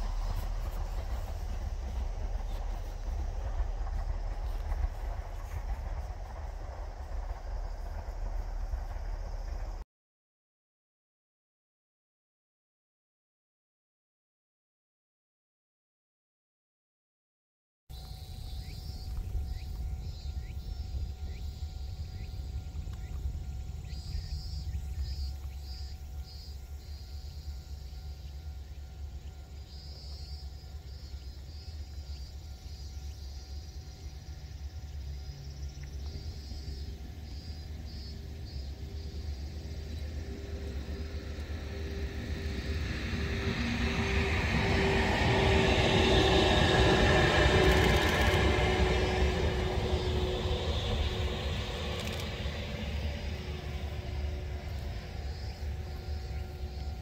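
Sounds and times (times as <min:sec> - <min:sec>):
pulsing hum: 0:00.0 - 0:09.8, 0:17.9 - 0:57.0
steady low rumble: 0:00.0 - 0:09.8, 0:17.9 - 0:57.0
train passing: 0:00.0 - 0:09.8, 0:17.9 - 0:57.0.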